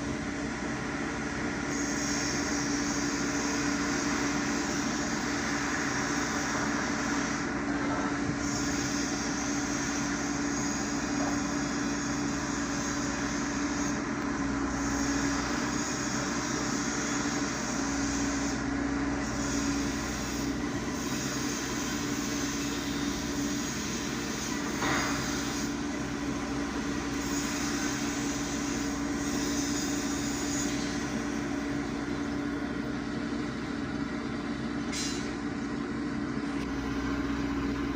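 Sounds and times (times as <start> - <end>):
excavator engine humming: 0.0 - 37.9.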